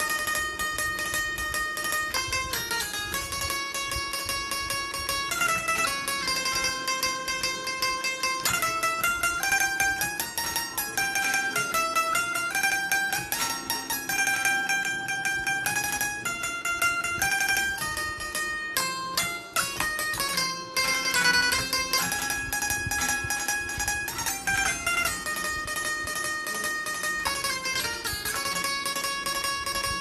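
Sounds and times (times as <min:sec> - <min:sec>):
plucked banjo melody: 0:00.0 - 0:30.0.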